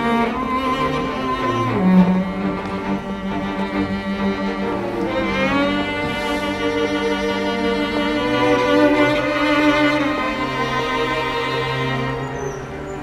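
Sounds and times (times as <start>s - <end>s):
slow low bowed-string notes: 0.0s - 13.0s.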